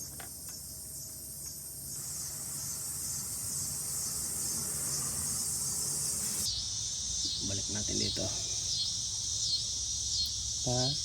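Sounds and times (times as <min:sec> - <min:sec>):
high-pitched hiss: 0:01.8 - 0:11.0.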